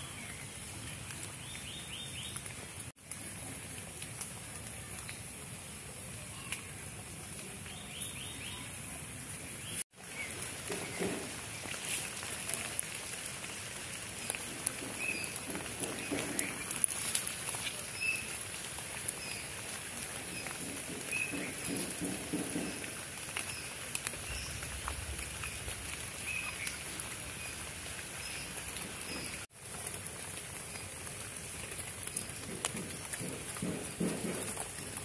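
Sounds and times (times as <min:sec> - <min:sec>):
rain pattering on leaf litter: 0:00.0 - 0:35.0
rustling of leaves: 0:00.0 - 0:35.0.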